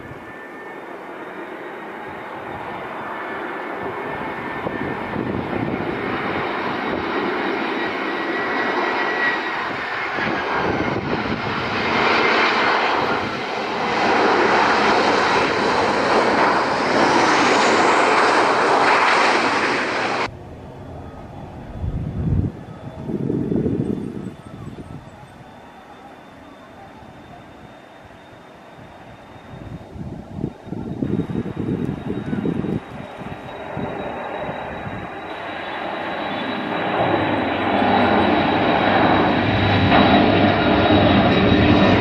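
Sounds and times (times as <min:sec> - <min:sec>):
jet engines roaring on landing: 0:00.0 - 0:42.0.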